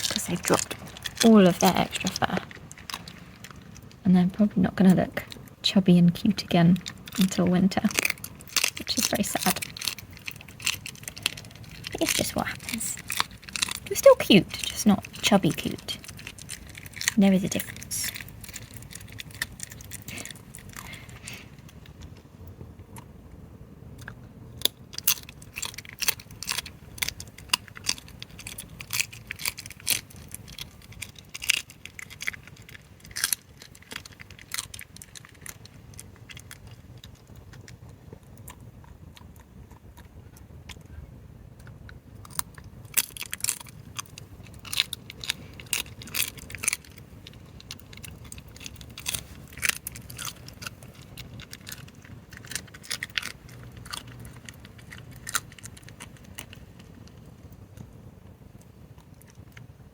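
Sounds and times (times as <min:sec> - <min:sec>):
fox chewing crunchy food: 0:00.0 - 0:05.7, 0:06.5 - 0:23.2, 0:24.0 - 0:57.9.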